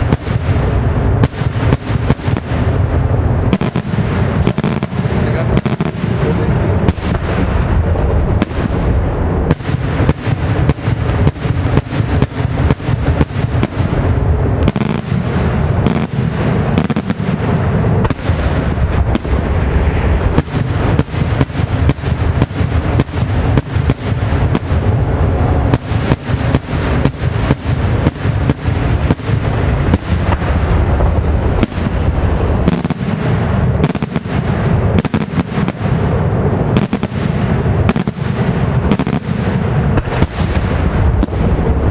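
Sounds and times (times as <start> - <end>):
deep fireworks rumble: 0.0 - 41.9
fireworks bangs: 0.0 - 41.9.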